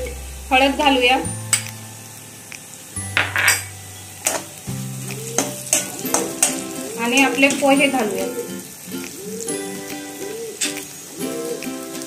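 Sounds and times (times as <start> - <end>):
potatoes sizzling: 0.0 - 12.0.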